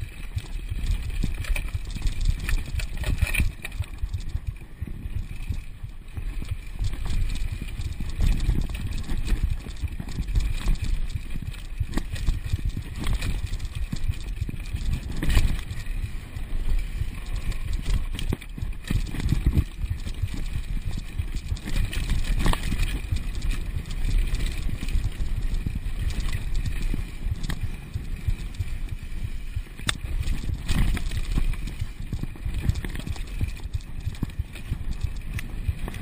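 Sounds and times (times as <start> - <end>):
bike chain and frame knocking: 0.0 - 36.0
steady low rumble: 0.0 - 36.0.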